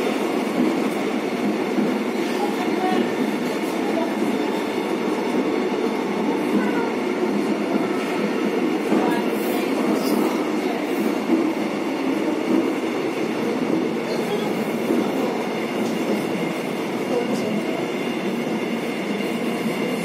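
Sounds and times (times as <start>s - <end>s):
subway train rumbling on rails: 0.0s - 20.0s.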